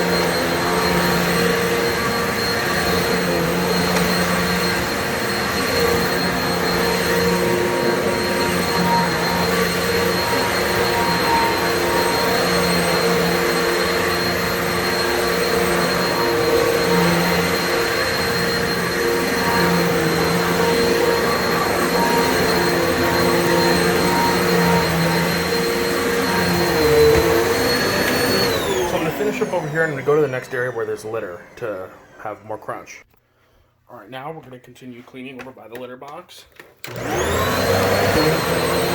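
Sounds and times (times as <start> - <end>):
vacuum cleaner running: 0.0 - 32.9, 36.8 - 38.9.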